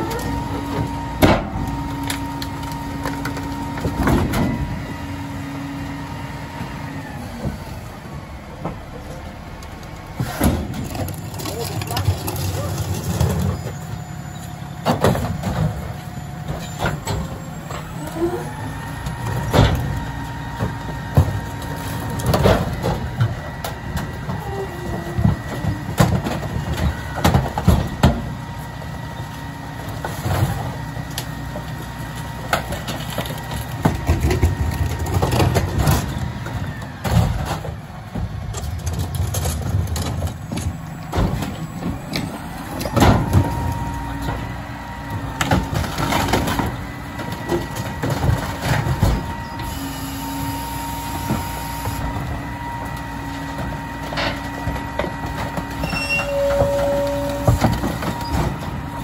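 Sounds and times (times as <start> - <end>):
garbage truck running: 0.0 - 59.0.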